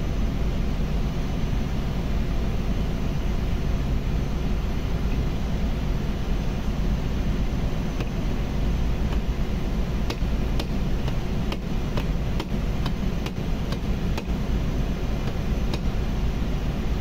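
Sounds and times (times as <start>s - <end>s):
low machinery drone: 0.0s - 17.0s.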